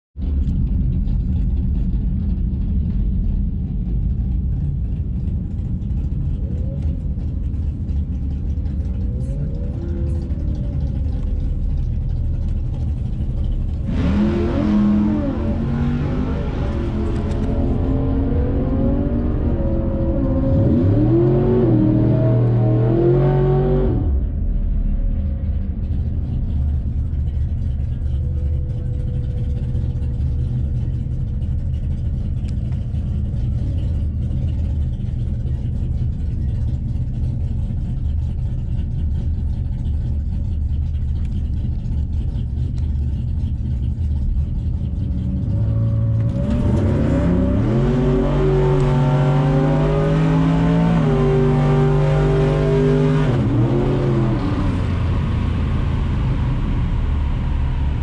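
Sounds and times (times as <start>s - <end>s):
car engine idling and accelerating: 0.2s - 58.0s.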